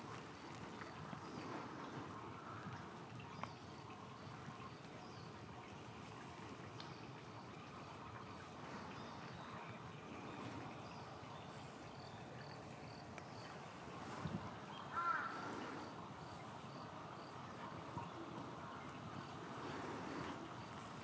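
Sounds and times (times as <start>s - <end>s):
steady outdoor background noise: 0.0s - 21.0s.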